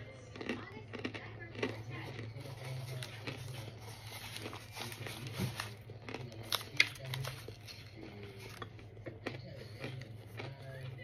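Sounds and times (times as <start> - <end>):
crisp chewing crunches: 0.0 - 11.0.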